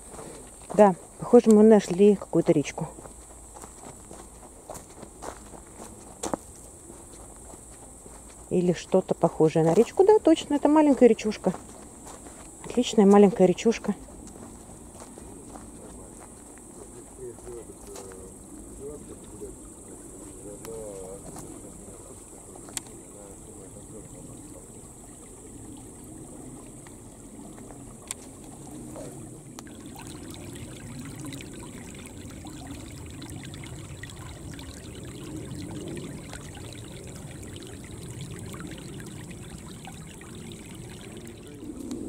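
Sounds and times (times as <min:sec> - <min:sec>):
stream trickling and babbling: 0:00.0 - 0:42.0.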